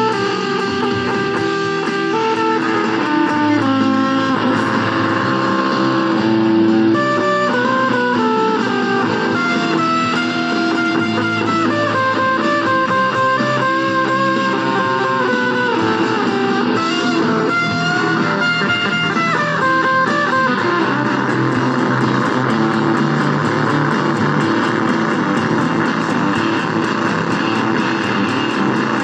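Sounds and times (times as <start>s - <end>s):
electric guitar music: 0.0s - 29.0s
high ticking beat: 0.0s - 29.0s.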